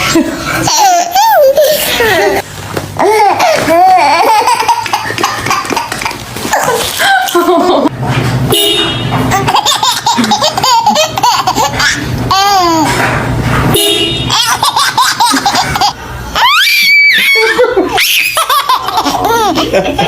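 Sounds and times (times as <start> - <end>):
baby laughing: 0.0 - 2.4, 3.0 - 7.9, 9.3 - 13.0, 14.3 - 20.0.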